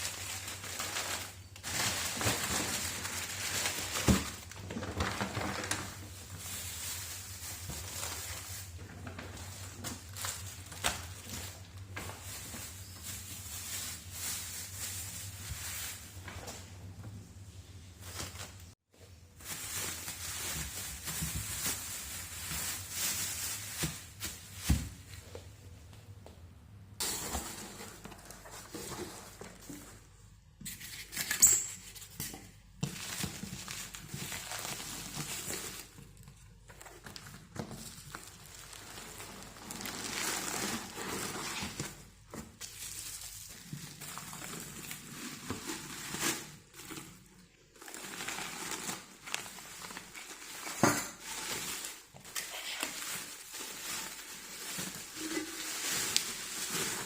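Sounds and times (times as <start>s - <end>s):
kitchen rustling: 0.0s - 57.0s.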